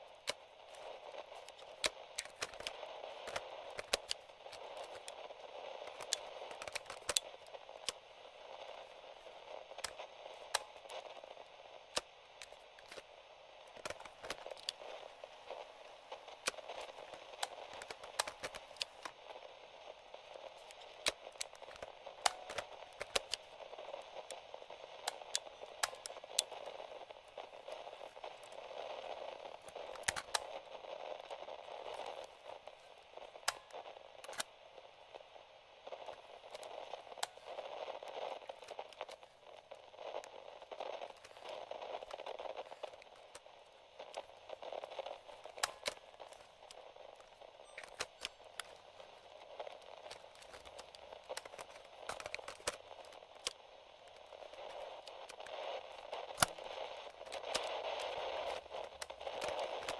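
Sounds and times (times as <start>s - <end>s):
radio static hiss: 0.0s - 59.9s
static crackles and pops: 0.0s - 59.9s.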